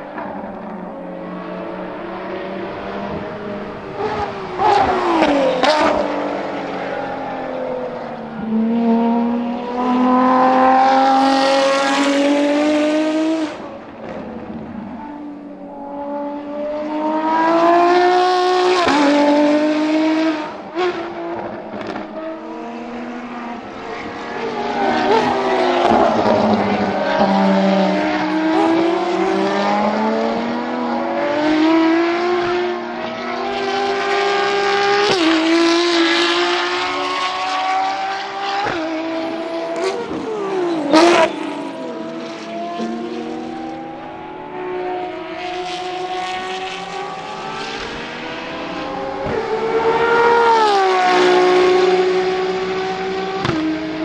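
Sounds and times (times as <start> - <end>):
race cars passing at full throttle: 0.0 - 54.0.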